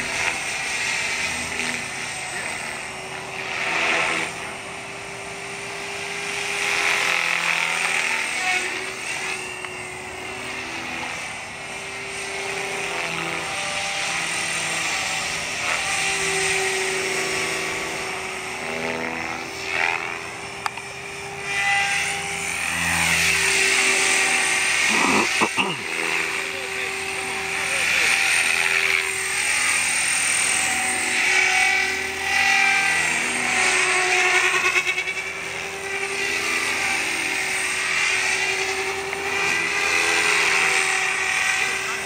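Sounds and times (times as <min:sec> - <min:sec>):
rc helicopter motor and rotor: 0:00.0 - 0:42.0.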